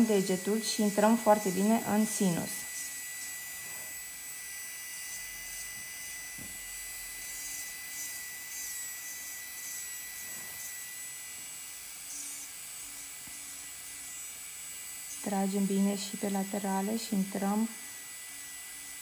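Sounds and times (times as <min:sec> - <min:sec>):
electric nail drill whining: 0:00.0 - 0:19.0.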